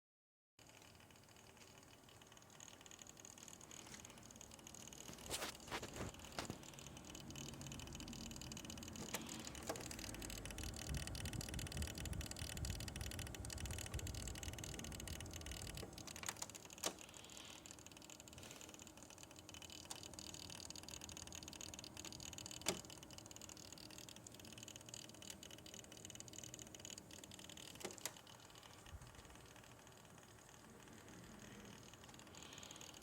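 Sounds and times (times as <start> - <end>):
fans whirring: 0.6 - 33.0.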